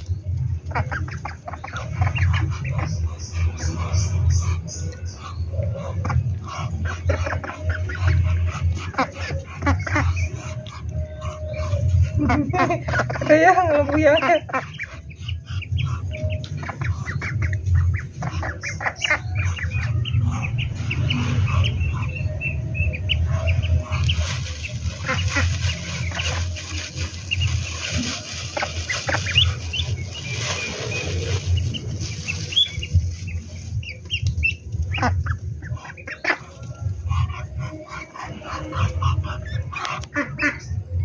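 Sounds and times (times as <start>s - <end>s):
ducklings peeping: 0.0s - 41.0s.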